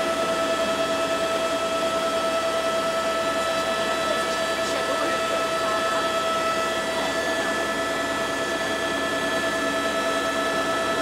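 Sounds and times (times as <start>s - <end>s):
constant whine: 0.0s - 11.0s
helicopter rotor and turbine drone: 0.0s - 11.0s.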